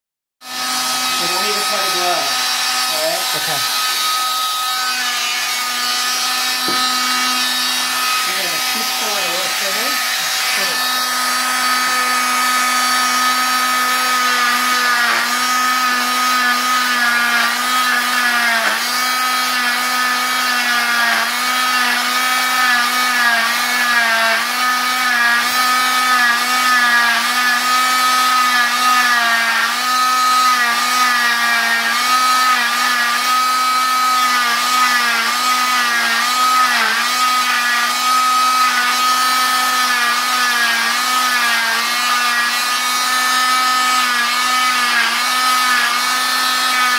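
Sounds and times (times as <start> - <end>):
cast saw motor whine: 0.4 - 46.9.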